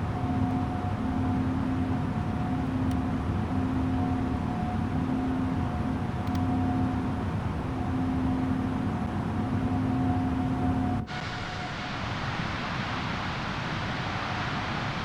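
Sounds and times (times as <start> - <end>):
jet engines and airflow humming: 0.0 - 15.0.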